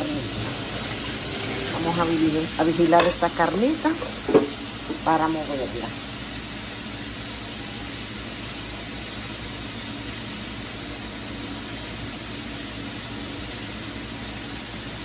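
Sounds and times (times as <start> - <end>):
beef sizzling in a skillet: 0.0 - 15.0.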